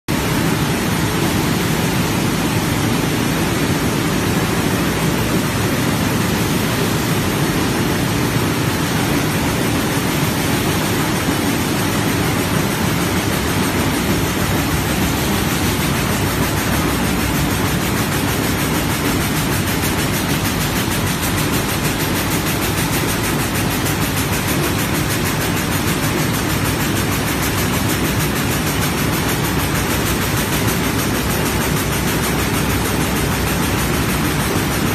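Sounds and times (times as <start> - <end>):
looms clattering and hissing: 0.1 - 34.9.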